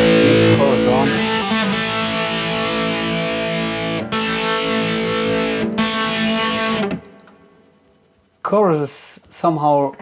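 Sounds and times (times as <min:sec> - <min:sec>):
distorted electric guitar chords: 0:00.0 - 0:08.4.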